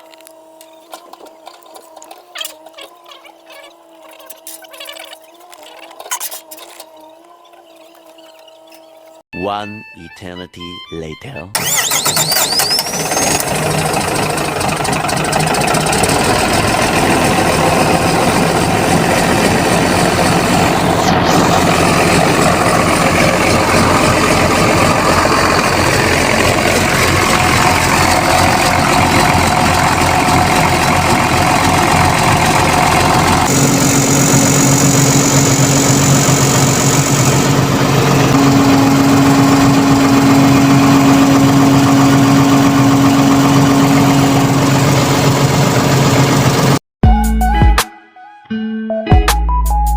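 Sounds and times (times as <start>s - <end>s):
diesel engine running: 0.0s - 9.3s, 11.6s - 46.8s.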